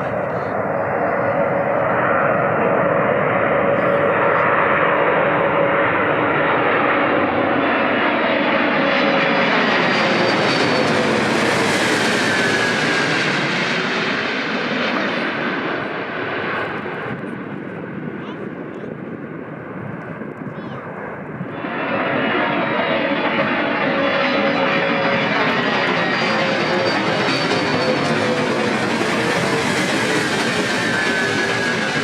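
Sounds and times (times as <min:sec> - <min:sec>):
jet engine noise passing by: 0:00.0 - 0:32.0.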